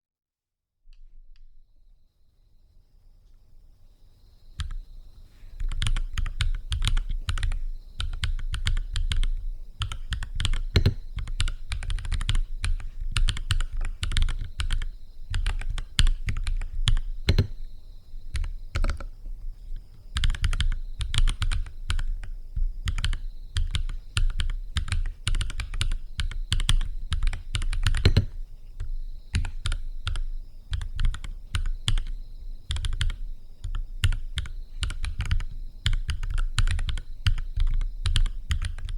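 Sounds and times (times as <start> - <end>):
typing on mechanical keyboard: 4.6 - 4.8, 5.6 - 17.6, 18.3 - 19.2, 20.1 - 38.9.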